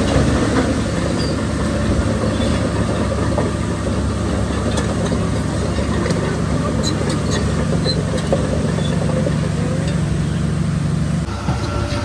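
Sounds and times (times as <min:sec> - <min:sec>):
heavy machinery diesel engine drone: 0:00.0 - 0:12.0.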